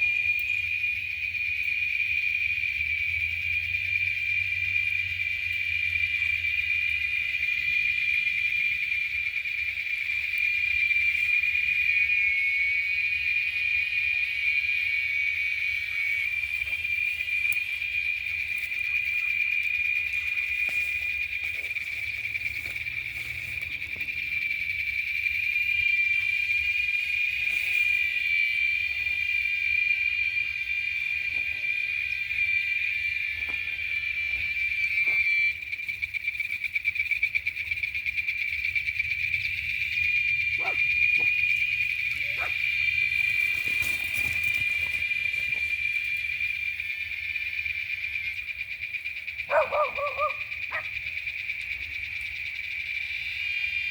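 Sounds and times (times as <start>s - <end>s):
insects chorus: 0.0s - 53.9s.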